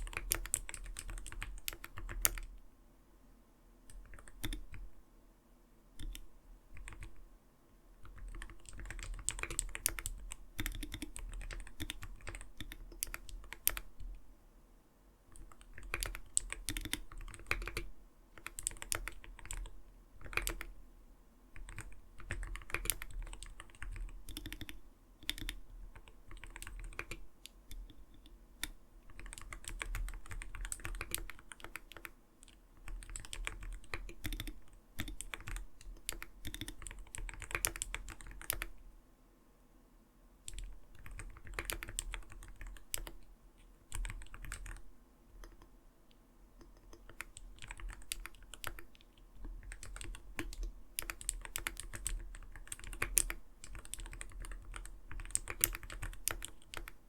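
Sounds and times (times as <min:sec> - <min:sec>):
mechanical keyboard typing: 0:00.0 - 0:02.6, 0:03.9 - 0:04.9, 0:06.0 - 0:07.2, 0:08.0 - 0:14.2, 0:15.3 - 0:20.8, 0:21.5 - 0:38.8, 0:40.4 - 0:43.3, 0:43.9 - 0:45.7, 0:46.6 - 0:57.0.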